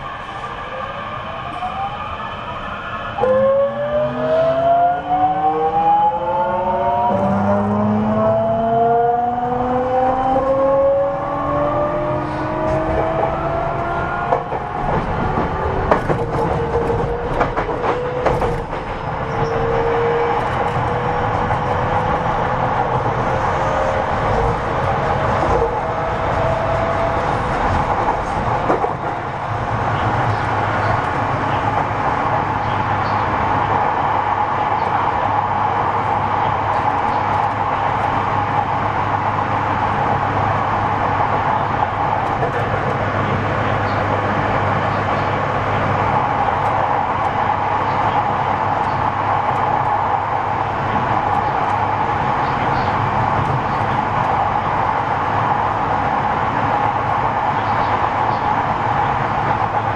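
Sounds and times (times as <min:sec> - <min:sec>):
train running rumble: 0:06.6 - 0:59.9.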